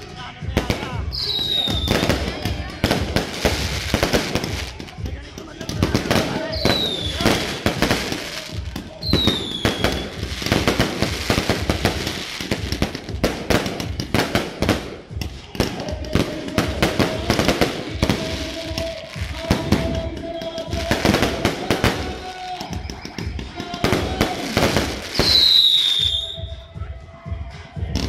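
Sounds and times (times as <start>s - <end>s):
fireworks bangs and crackles: 0.0s - 26.6s, 27.7s - 28.0s.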